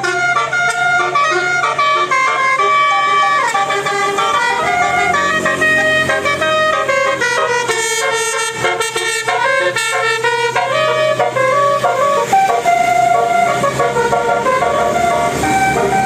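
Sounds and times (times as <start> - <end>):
bus musical horn playing tune: 0.0 - 16.0.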